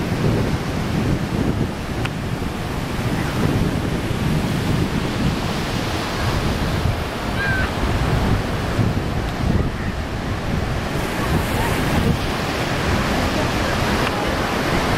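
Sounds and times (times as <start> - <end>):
ocean surf breaking: 0.0 - 14.9
wind buffeting microphone: 0.0 - 14.9.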